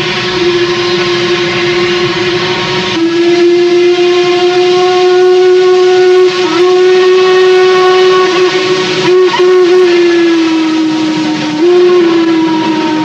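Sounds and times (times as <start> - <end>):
steam locomotive whistle: 0.0 - 13.0
working train noise: 0.0 - 13.0.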